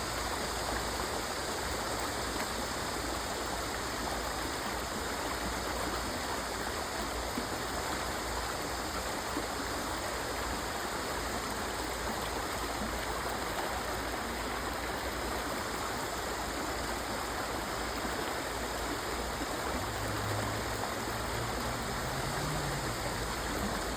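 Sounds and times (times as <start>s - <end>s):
stream water rushing: 0.0s - 23.9s.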